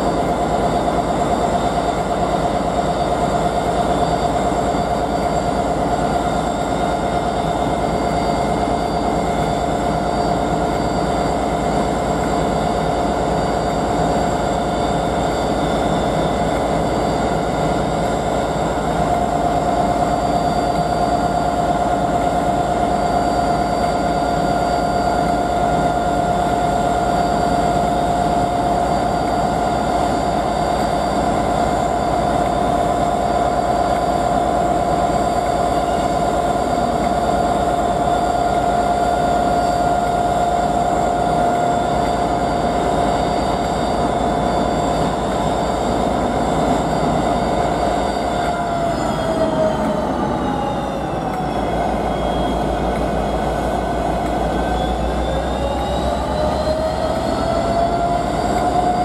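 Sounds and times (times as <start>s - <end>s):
diesel locomotive engines running: 0.0s - 59.0s.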